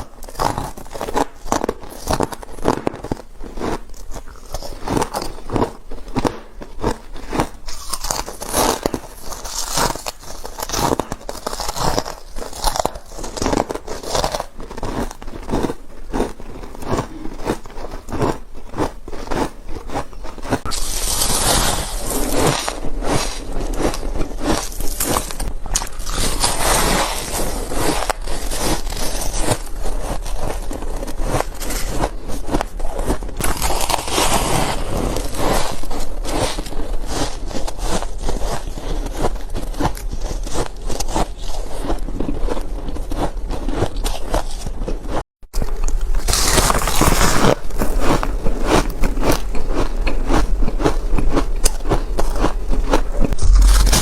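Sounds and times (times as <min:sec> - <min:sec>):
ice being crunched: 0:00.0 - 0:41.9, 0:45.6 - 0:54.0.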